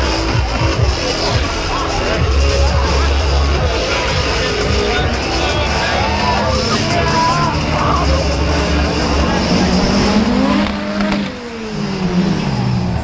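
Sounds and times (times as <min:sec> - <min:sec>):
background music: 0:00.0 - 0:13.0
car engine revving: 0:00.0 - 0:13.0.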